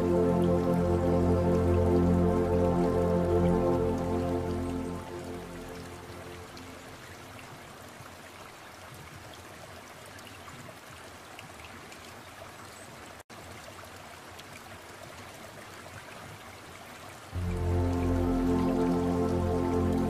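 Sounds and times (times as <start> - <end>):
running water trickling: 0.0 - 20.0.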